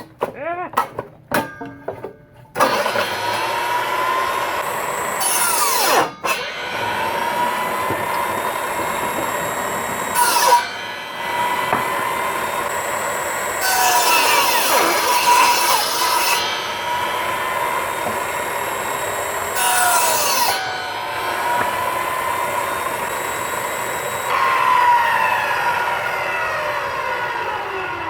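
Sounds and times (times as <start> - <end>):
chop saw cutting wood: 2.6 - 28.0.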